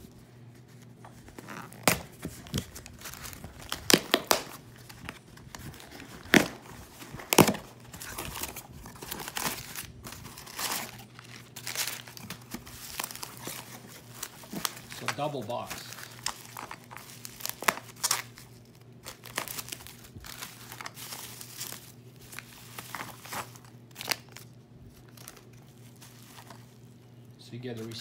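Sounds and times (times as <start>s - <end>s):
cardboard rustling: 0.0s - 28.0s
packing material crinkling: 0.0s - 28.0s
cardboard flaps tearing: 1.3s - 24.4s.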